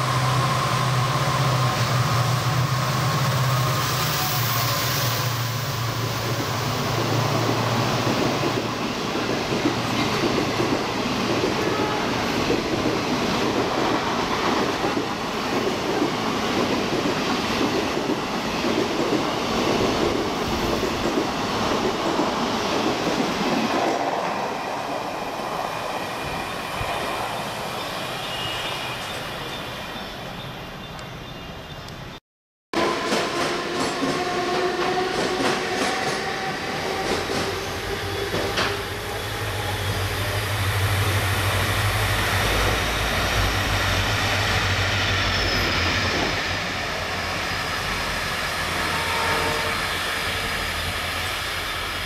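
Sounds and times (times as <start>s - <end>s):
train rushing past: 0.0s - 30.7s, 32.8s - 52.0s.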